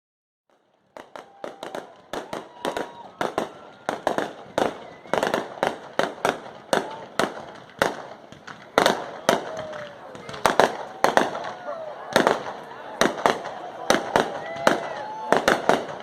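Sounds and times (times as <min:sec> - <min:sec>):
fireworks banging: 0:00.5 - 0:16.0.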